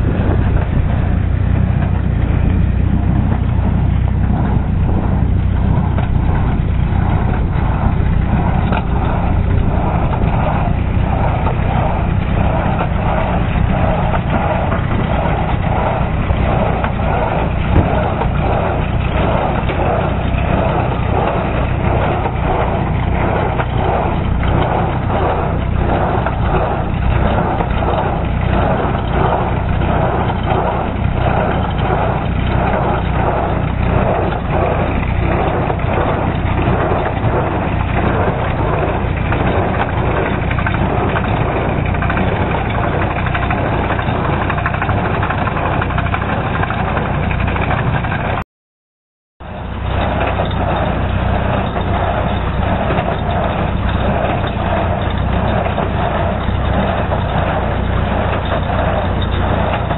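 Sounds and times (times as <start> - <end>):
baler rhythmic clatter: 0.0 - 48.4, 49.4 - 59.9
tractor engine running: 0.0 - 48.4, 49.4 - 59.9.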